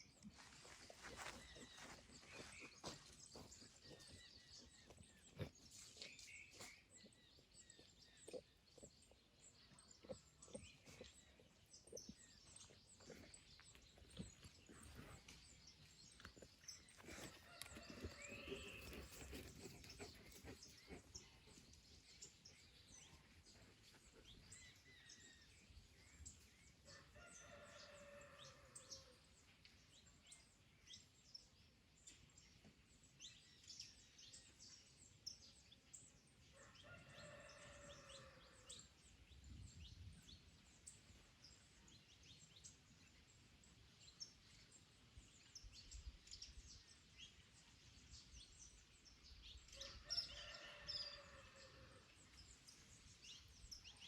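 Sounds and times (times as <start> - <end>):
faint birds chirping: 0.0 - 54.0.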